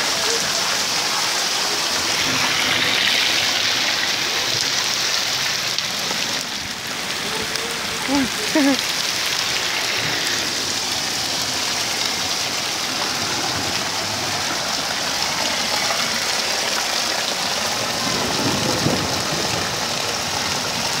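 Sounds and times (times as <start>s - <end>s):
heavy rain and hail: 0.0s - 21.0s
runoff water streaming: 0.0s - 21.0s.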